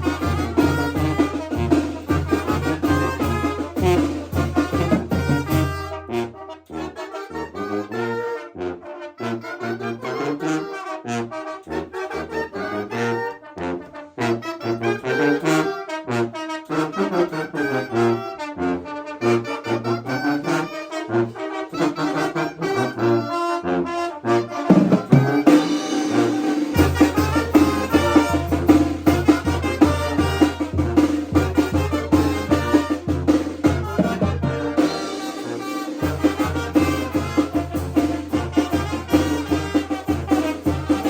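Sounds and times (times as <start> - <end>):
brass band playing: 0.0 - 41.0.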